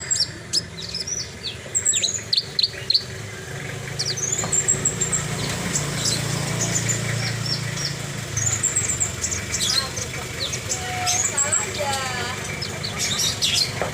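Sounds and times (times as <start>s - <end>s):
bird whistling and trilling: 0.0s - 13.8s.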